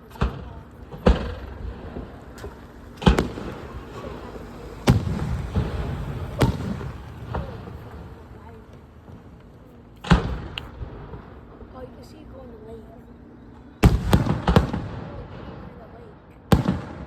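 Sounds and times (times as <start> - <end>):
faint fireworks pops: 0.0 - 11.4, 13.5 - 15.3, 16.5 - 17.0
fireworks booming: 0.0 - 11.8, 13.8 - 15.9, 16.5 - 17.0.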